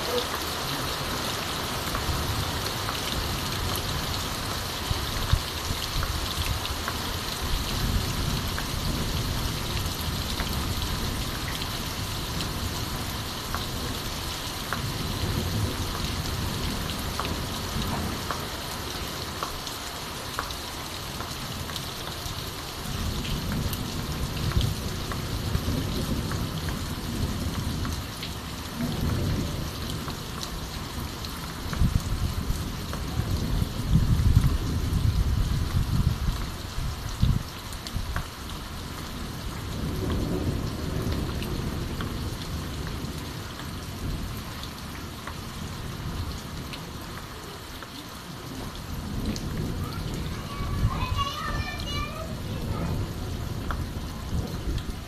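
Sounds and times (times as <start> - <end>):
raindrops ticking: 0.0 - 34.7, 37.7 - 55.0
heavy rain on a tiled roof: 0.0 - 55.0.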